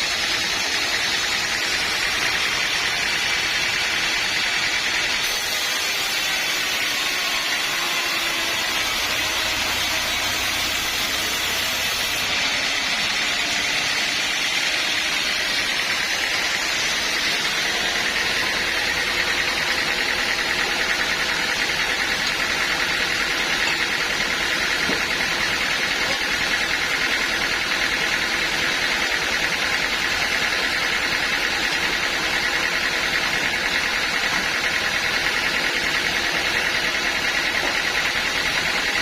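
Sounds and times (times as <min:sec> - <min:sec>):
sawmill saw running: 0:00.0 - 0:39.0.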